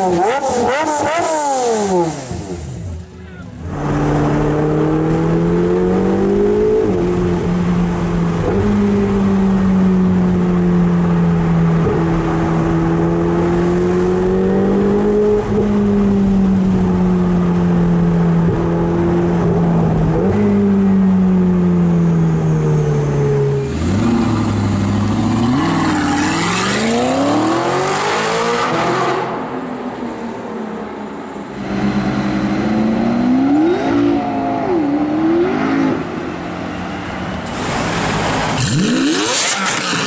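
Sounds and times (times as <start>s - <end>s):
car revving and accelerating: 0.0s - 3.0s, 3.6s - 22.1s, 22.7s - 29.6s, 31.5s - 40.0s
car engine cruising: 0.0s - 40.0s.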